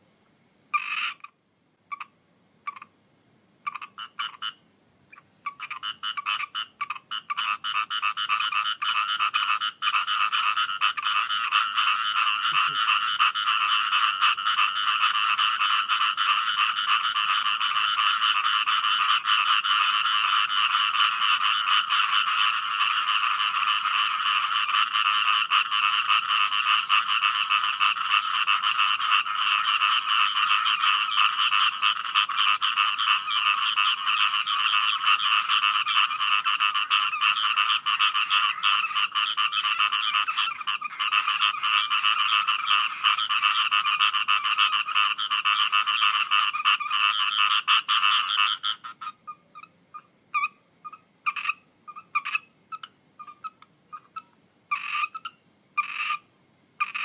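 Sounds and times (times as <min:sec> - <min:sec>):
frogs croaking: 0:00.0 - 0:57.0.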